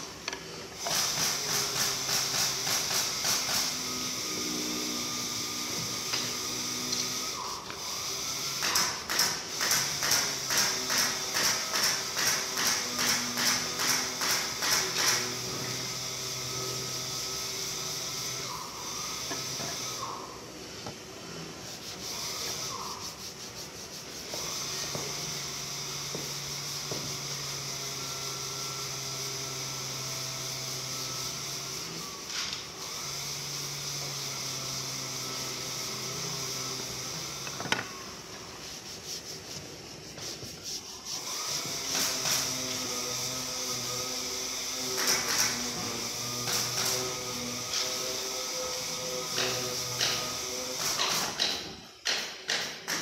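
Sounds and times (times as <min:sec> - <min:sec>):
sandpaper rubbing on wood: 0:00.8 - 0:20.4, 0:21.5 - 0:51.4.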